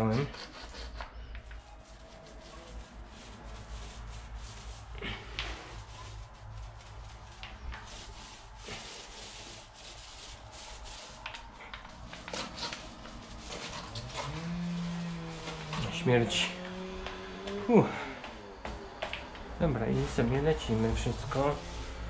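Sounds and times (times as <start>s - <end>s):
paint roller rasping on concrete: 0.0s - 18.8s, 19.6s - 22.0s.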